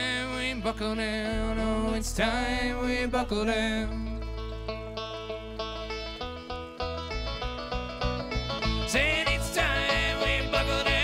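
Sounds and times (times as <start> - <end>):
acoustic guitar: 0.0 - 11.0
banjo: 0.0 - 11.0
mandolin: 0.0 - 11.0
upright bass: 0.0 - 11.0.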